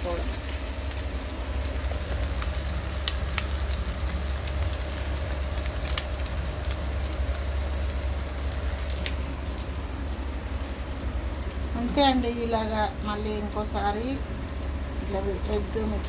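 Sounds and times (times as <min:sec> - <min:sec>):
chicken deep-frying in oil: 0:00.0 - 0:16.0
low steady hum: 0:00.0 - 0:16.0.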